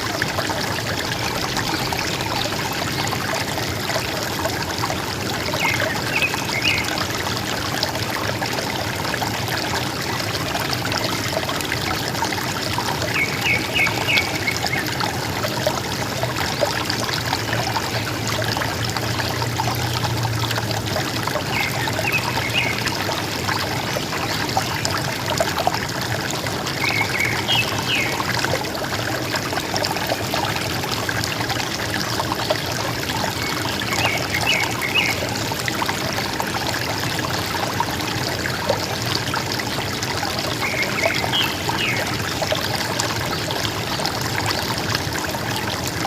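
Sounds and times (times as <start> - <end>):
river water gurgling: 0.0 - 46.0.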